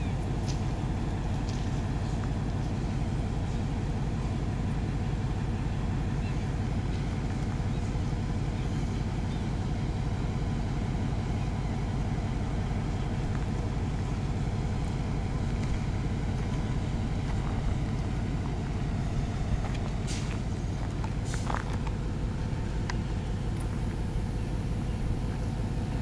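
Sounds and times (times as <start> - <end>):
locomotive diesel engine running: 0.0 - 26.0.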